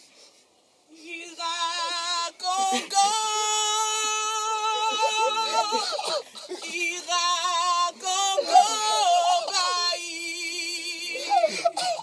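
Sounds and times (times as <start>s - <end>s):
woman singing with vibrato: 0.9s - 12.0s.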